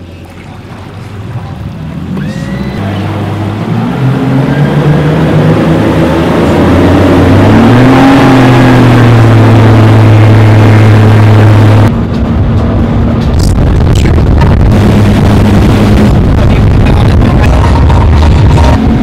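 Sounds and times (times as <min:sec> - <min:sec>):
wake water rushing: 0:00.0 - 0:11.9, 0:12.9 - 0:19.0
outboard motors accelerating: 0:00.0 - 0:19.0.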